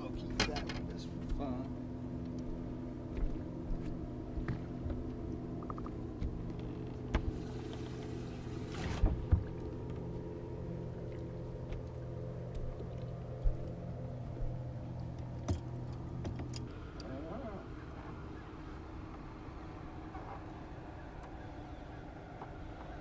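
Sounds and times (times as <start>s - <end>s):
low electric hum: 0.0s - 23.0s.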